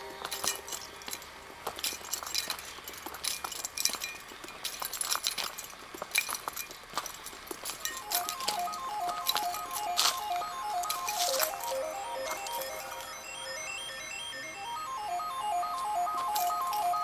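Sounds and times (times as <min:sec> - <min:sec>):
light clinking and ticking: 0:00.0 - 0:13.2, 0:16.0 - 0:17.0.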